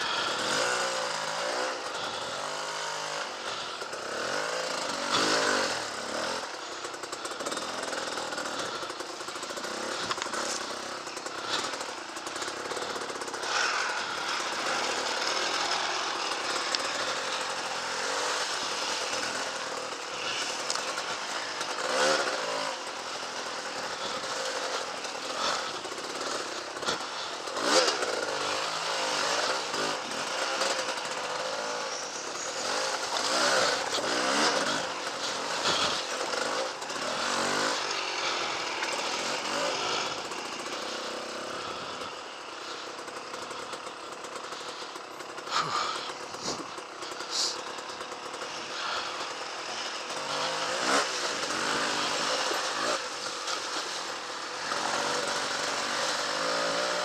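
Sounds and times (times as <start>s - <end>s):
two-stroke engines revving: 0.0s - 57.0s.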